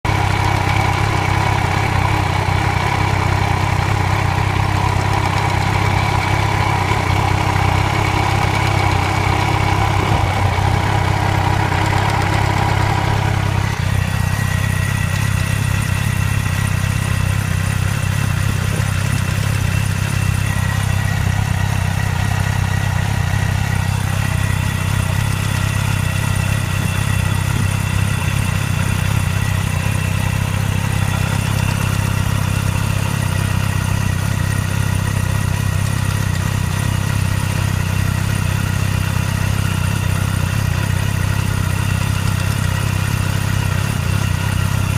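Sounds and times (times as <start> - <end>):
engine clacking: 0.0 - 44.9
motorcycle engine idling: 0.0 - 44.9.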